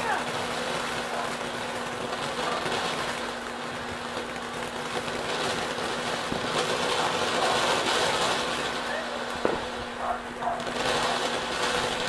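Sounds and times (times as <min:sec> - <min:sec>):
firework sparks hissing: 0:00.0 - 0:12.0.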